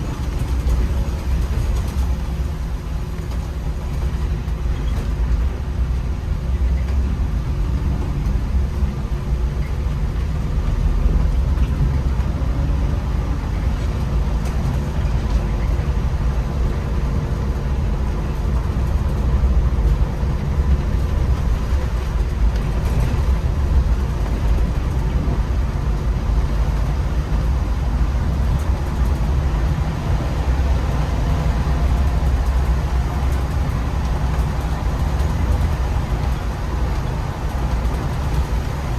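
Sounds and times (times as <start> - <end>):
bus engine and road rumble: 0.0 - 38.9.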